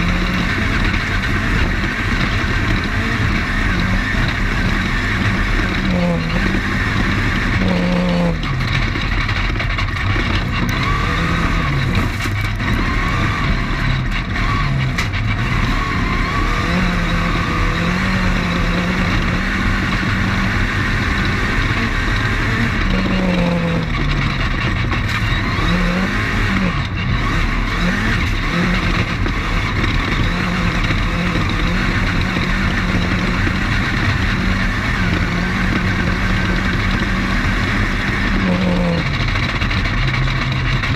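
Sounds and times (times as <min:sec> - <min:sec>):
race car engine revving: 0:00.0 - 0:40.9
road and wind noise: 0:00.0 - 0:40.9.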